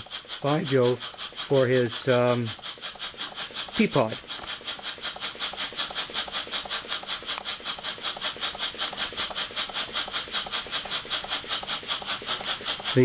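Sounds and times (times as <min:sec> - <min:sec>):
steam engine exhaust puffs: 0:00.0 - 0:13.0.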